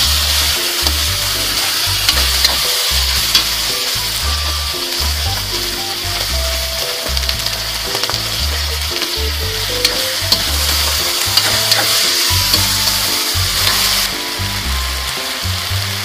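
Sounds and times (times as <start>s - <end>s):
metal spatula scraping wok: 0.0s - 15.4s
background music: 0.0s - 16.0s
vegetables sizzling in oil: 0.0s - 16.0s.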